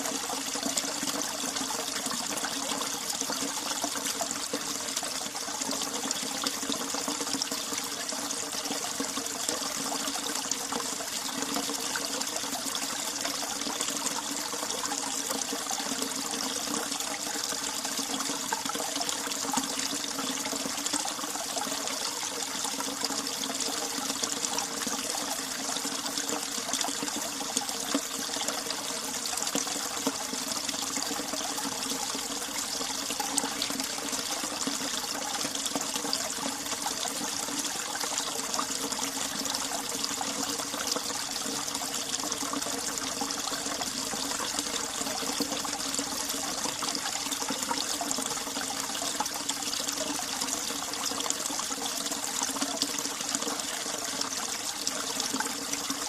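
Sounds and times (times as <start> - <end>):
stream water rushing and trickling: 0.0 - 56.0.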